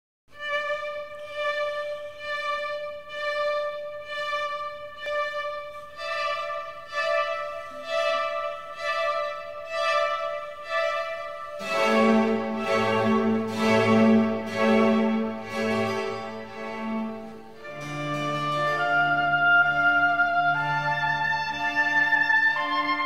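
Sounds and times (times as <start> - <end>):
string-like instrumental music: 0.3 - 23.0.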